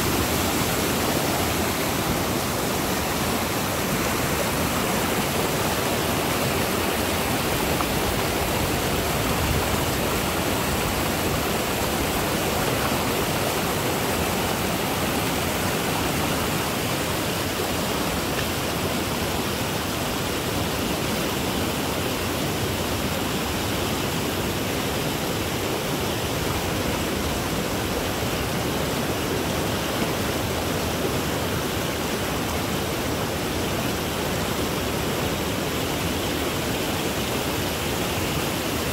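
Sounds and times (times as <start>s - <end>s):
water rushing over rapids: 0.0s - 38.9s.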